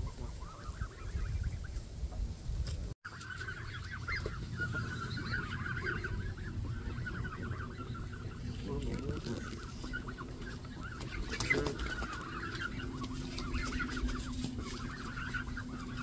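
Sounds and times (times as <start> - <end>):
geese honking: 0.0 - 1.9, 3.1 - 16.0.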